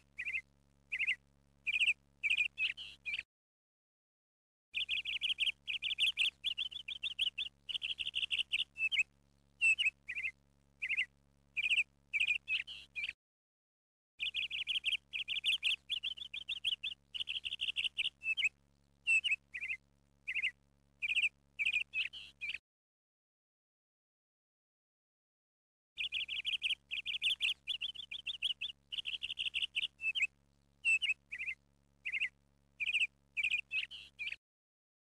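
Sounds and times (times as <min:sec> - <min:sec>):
bird chirping and trilling: 0:00.1 - 0:03.2, 0:04.8 - 0:13.2, 0:14.2 - 0:22.6, 0:26.0 - 0:34.4.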